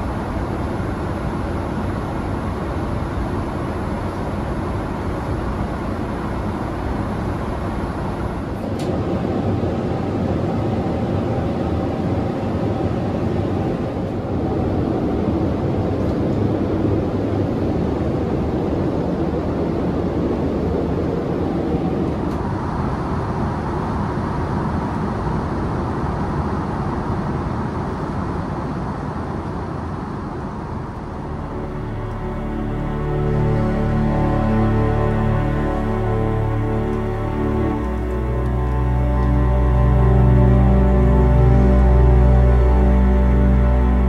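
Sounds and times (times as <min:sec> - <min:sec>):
airflow and engine noise in cabin: 0:00.0 - 0:44.0
faint steady hum: 0:00.0 - 0:44.0.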